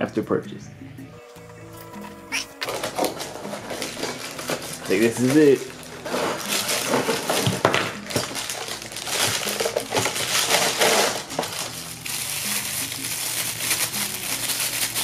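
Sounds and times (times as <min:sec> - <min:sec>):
plastic bag crinkling and rustling: 0:02.6 - 0:15.0.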